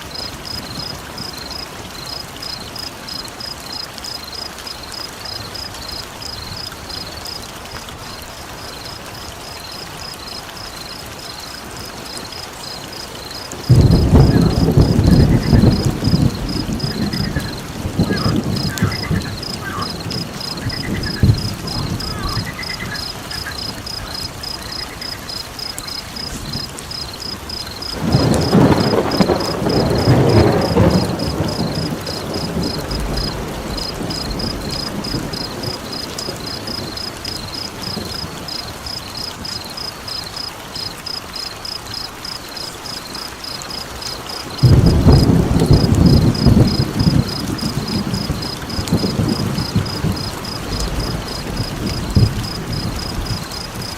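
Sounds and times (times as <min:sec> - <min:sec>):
rain-like hiss: 0:00.0 - 0:53.9.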